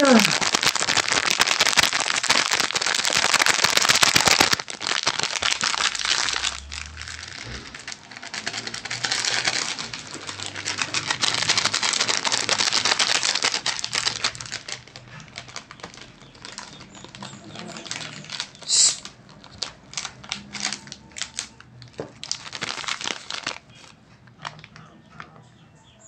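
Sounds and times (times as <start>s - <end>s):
plastic sachet crinkling: 0.0s - 25.0s.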